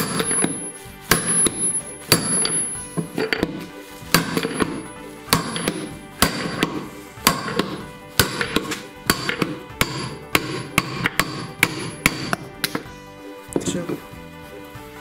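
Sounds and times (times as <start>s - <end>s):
hammer striking steel: 0.0s - 12.9s.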